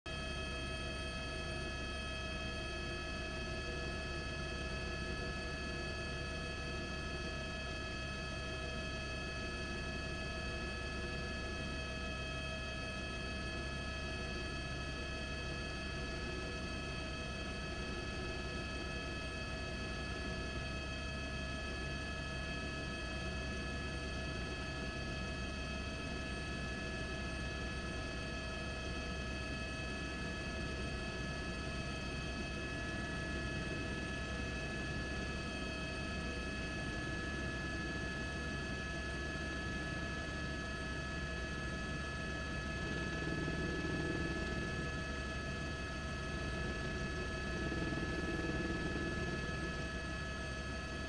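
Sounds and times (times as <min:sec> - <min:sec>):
helicopter engine and rotor: 0:00.1 - 0:51.0.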